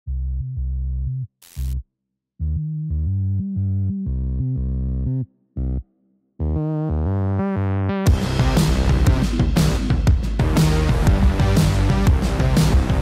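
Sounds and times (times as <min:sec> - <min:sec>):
synthesizer low notes: 0:02.4 - 0:13.0.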